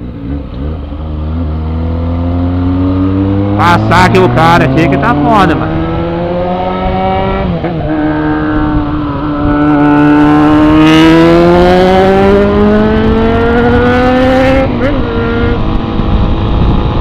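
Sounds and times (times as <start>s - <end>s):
motorcycle engine accelerating: 0.0s - 17.0s
wind and road rush: 0.0s - 17.0s.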